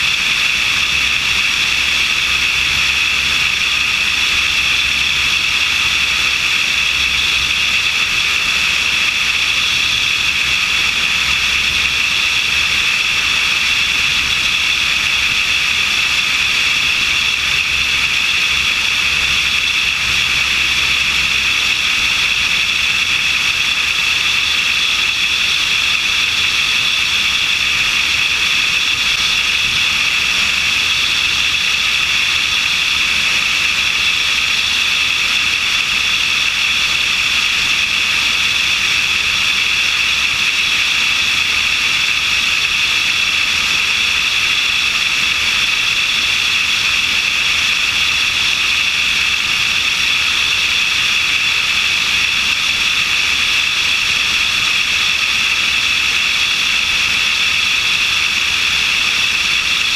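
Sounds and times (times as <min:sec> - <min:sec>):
faint low engine drone: 0:00.0 - 0:59.9.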